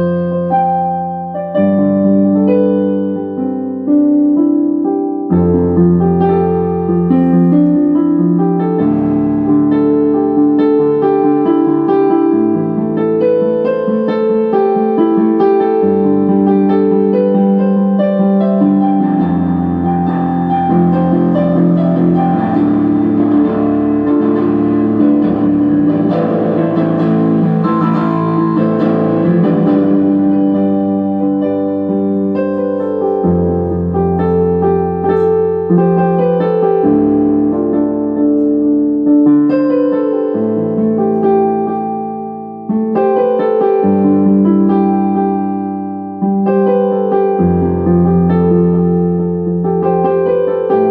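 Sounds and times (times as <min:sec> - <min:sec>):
electronic keyboard piano chords: 0:00.0 - 0:50.9.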